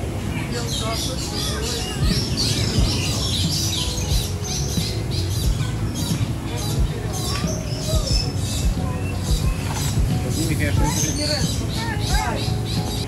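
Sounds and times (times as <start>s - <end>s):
birds squawking and chirping: 0.0s - 13.0s.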